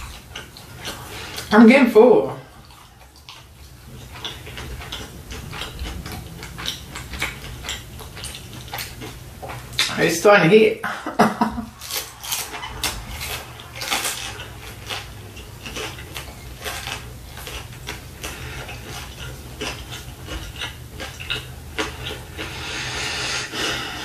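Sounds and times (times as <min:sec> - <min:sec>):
crunchy chewing: 0:00.0 - 0:01.5, 0:02.3 - 0:09.9, 0:11.7 - 0:24.0
steady low hum: 0:00.0 - 0:24.0.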